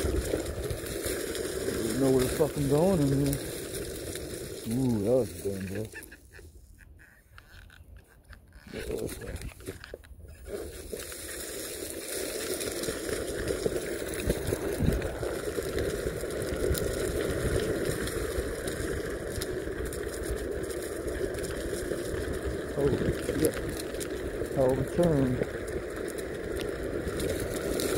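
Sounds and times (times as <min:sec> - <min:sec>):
skateboard wheels rolling over leaves: 0:00.0 - 0:27.9.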